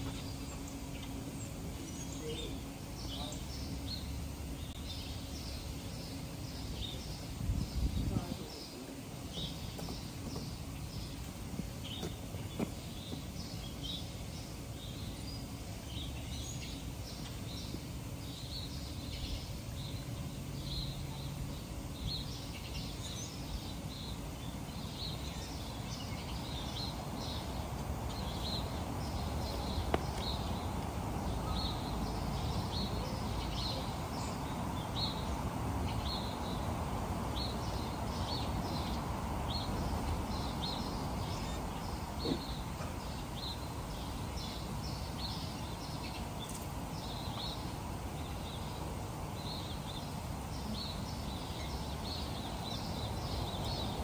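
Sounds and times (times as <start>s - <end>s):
low outdoor background noise: 0.0s - 54.0s.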